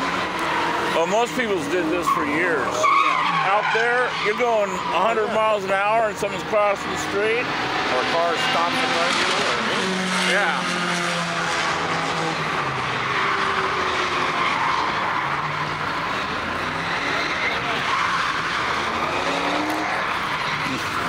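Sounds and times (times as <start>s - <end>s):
car engines revving: 0.0s - 21.0s
tires squealing: 0.0s - 21.0s.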